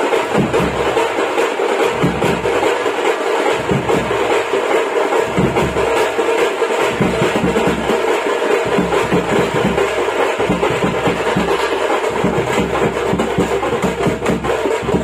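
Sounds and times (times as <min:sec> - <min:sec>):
frame drum: 0:00.0 - 0:15.0
stick-beaten bass drums: 0:00.0 - 0:15.0.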